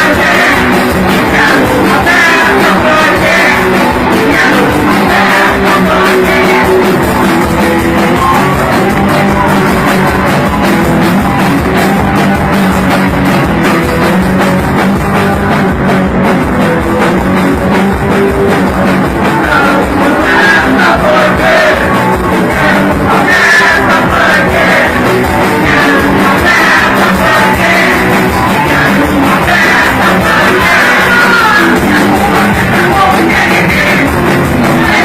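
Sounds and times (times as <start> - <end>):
person singing: 0.0 - 12.3, 18.8 - 35.0
bass guitar: 0.0 - 35.0
distorted electric guitar: 0.0 - 35.0
drum kit beat: 0.0 - 35.0.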